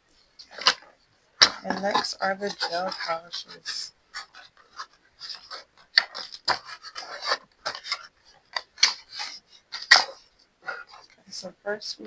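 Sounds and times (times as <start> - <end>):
packaging rustling: 0.4 - 11.2.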